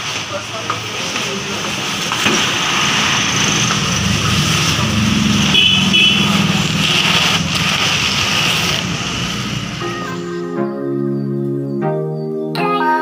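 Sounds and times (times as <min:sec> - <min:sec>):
small engines in traffic: 0:00.0 - 0:10.5.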